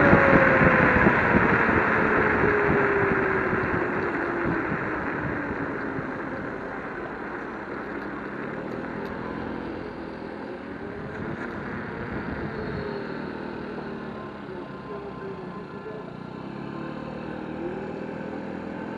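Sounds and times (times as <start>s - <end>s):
scooter motor whine: 0.0s - 18.9s
wind and road rush: 0.0s - 18.9s.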